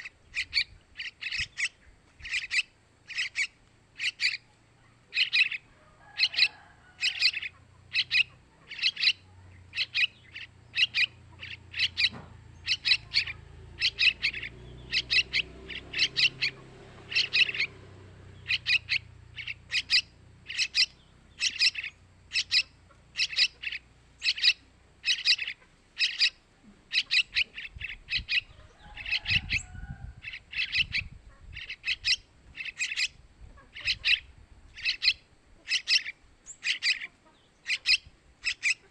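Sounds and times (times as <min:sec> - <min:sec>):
bird chick calling: 0:00.0 - 0:38.9.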